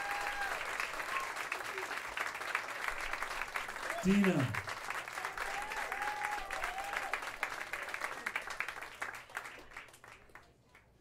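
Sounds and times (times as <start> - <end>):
audience applause: 0.0 - 10.6.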